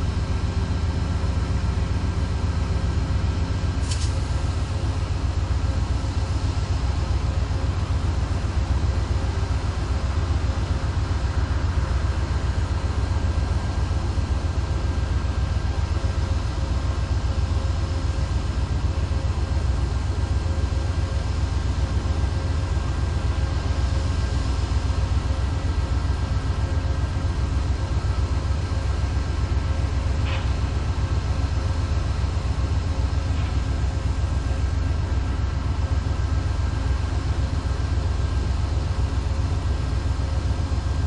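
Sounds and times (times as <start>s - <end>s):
diesel locomotive idling: 0.0s - 41.0s.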